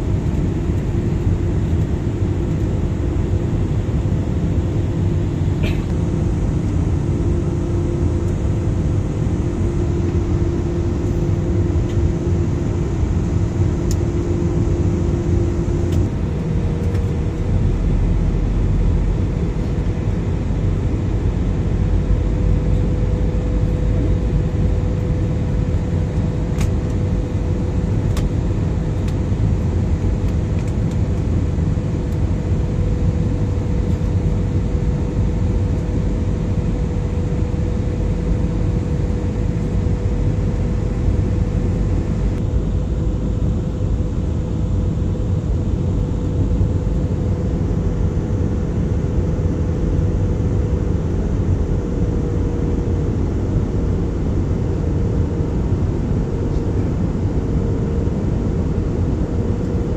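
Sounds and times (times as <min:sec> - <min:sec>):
aircraft cabin rumble: 0:00.0 - 0:59.9
faint engine hum: 0:00.0 - 0:59.9.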